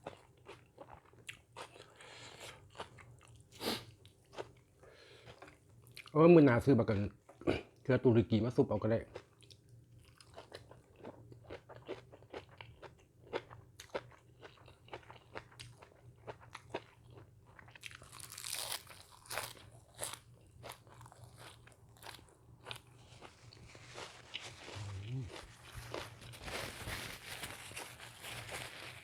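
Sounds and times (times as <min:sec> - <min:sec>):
person chewing crunchy food: 0:00.0 - 0:06.1, 0:09.0 - 0:29.0.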